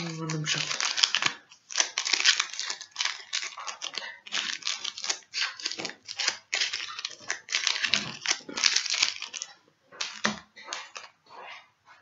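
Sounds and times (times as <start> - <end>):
foil pack crinkling and tearing: 0.0 - 11.1.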